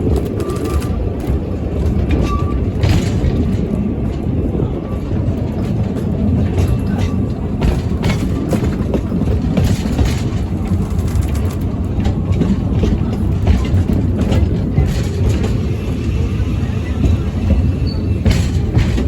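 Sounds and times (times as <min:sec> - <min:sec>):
train coaches rumbling: 0:00.0 - 0:19.0
wheels clicking over rails: 0:00.0 - 0:19.0.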